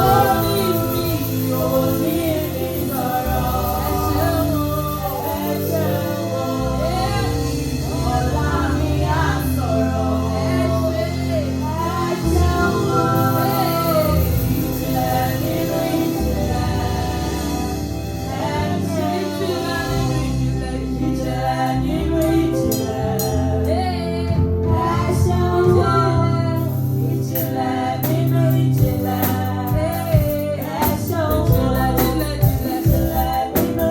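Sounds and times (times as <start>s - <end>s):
steady bass line: 0.0s - 33.9s.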